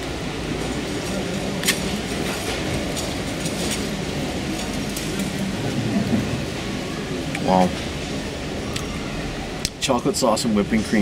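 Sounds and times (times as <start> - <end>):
heavy vehicle rumbling past: 0.0 - 11.0.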